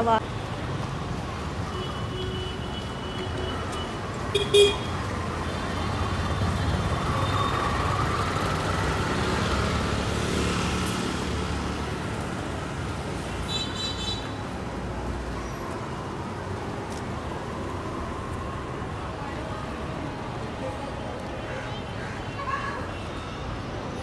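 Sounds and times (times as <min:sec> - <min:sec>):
street traffic engine rumble: 0:00.0 - 0:24.0.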